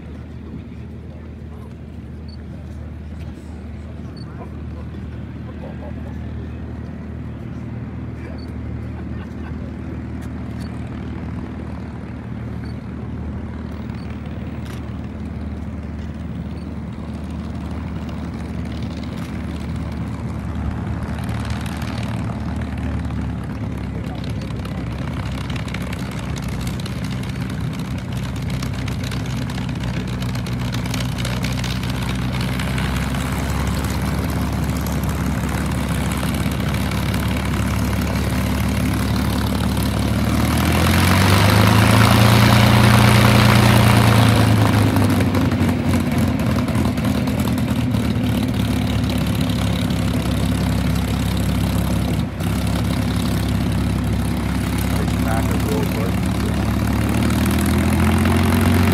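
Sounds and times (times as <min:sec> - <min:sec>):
propeller aircraft engine running: 0:00.0 - 0:58.9.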